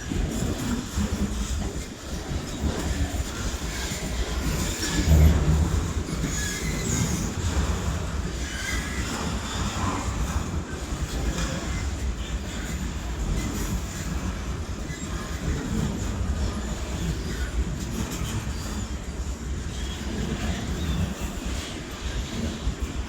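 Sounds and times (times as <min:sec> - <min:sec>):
train wheels rumbling on rails: 0:00.0 - 0:23.0
train wheels squealing: 0:00.0 - 0:23.0.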